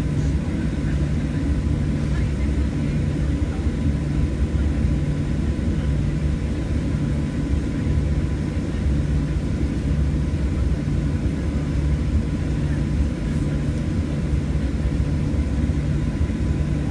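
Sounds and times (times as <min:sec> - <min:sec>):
jet engines low rumble: 0:00.0 - 0:16.9.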